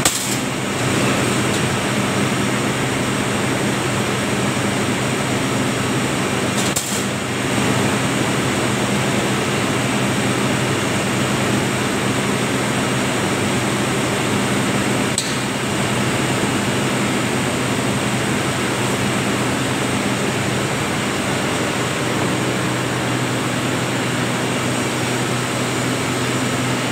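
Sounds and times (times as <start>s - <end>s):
spinning machinery hum and whir: 0.0s - 26.9s.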